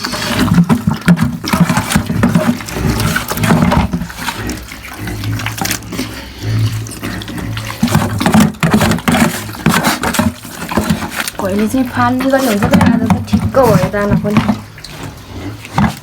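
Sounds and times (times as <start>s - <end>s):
pig chomping and slurping: 0.0s - 16.0s
pig grunting: 0.0s - 16.0s.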